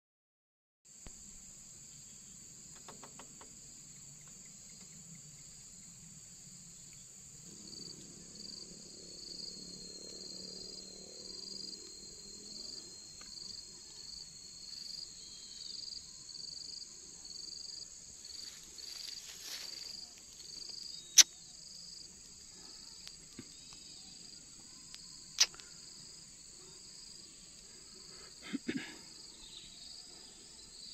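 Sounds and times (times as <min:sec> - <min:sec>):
insects droning: 0:00.9 - 0:30.9
pulsing insect chirp: 0:00.9 - 0:30.9
faint low hum: 0:01.2 - 0:30.9.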